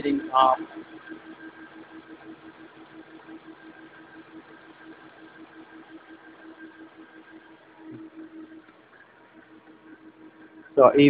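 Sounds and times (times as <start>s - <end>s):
gear train humming and whining: 0.0s - 11.0s.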